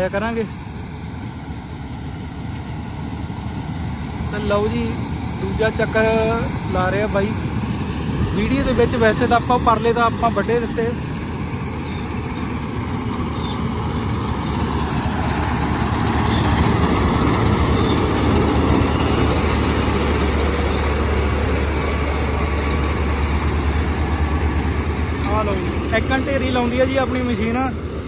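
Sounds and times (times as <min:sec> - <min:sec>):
diesel engine droning: 0:00.0 - 0:28.0
threshing machinery noise: 0:00.0 - 0:28.0.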